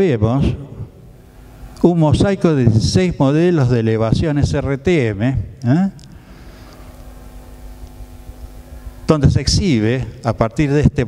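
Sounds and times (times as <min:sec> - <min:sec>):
low hum with faint hiss: 0:00.0 - 0:11.0.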